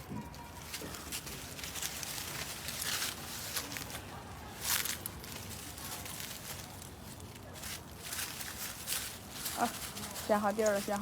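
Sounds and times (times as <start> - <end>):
rustling and scuffing on ground: 0.0 - 11.0.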